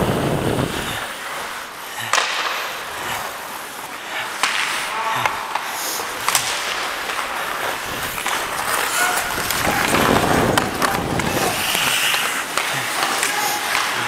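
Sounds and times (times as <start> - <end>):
skate blades scraping ice: 0.0 - 14.0.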